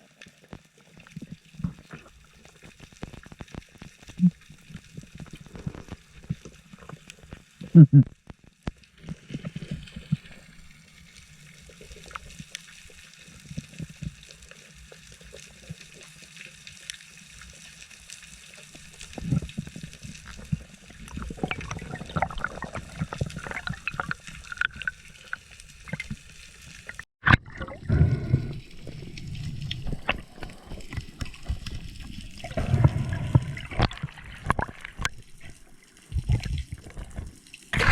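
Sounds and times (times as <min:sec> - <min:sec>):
water sloshing and gurgling: 0:00.0 - 0:37.9
crackling clicks: 0:00.1 - 0:37.9.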